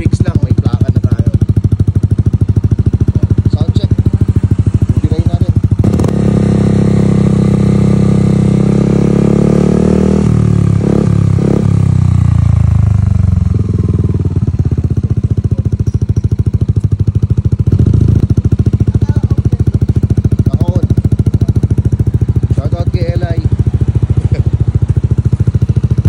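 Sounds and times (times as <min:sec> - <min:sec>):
scooter engine revving and idling: 0:00.0 - 0:26.0.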